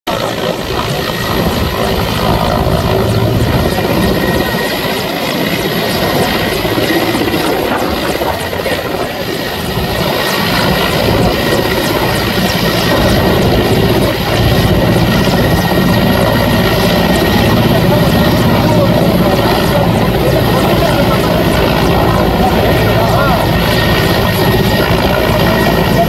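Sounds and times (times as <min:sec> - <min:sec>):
helicopter hovering: 0:00.1 - 0:26.0.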